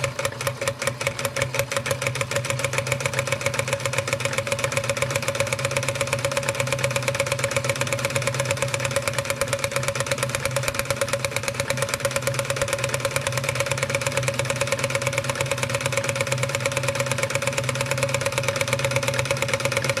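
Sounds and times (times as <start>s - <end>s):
model steam engine running: 0.0s - 20.0s.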